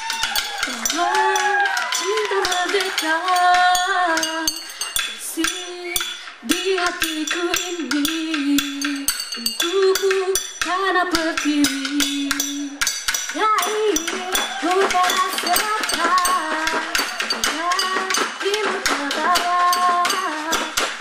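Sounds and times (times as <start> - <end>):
clinking metallic strikes: 0.0 - 21.0
percussion ensemble: 0.0 - 21.0
woman singing: 0.0 - 21.0.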